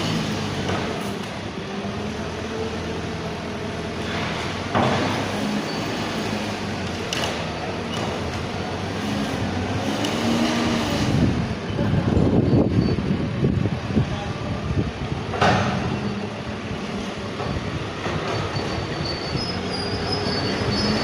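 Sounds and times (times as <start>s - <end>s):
heavy machinery humming: 0.0s - 21.0s.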